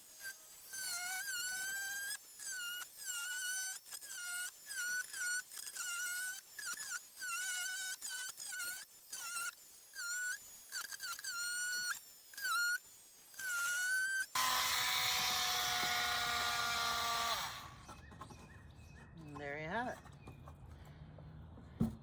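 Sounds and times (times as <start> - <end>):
electric power saw cutting: 0.0 - 18.4.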